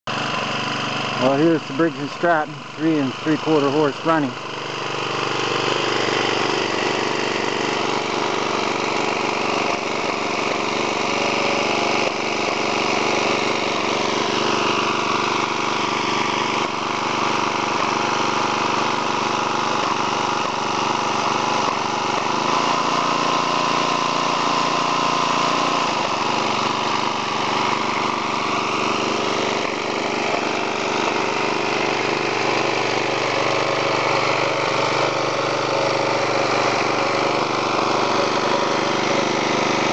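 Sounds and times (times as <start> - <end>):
rototiller engine running: 0.1 - 39.9.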